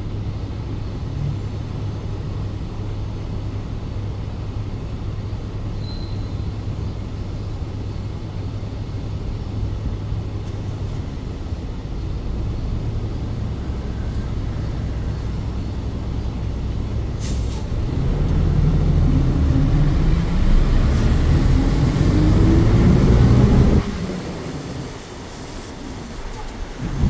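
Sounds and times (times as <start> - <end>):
bus engine running: 0.0 - 5.8, 6.4 - 27.0.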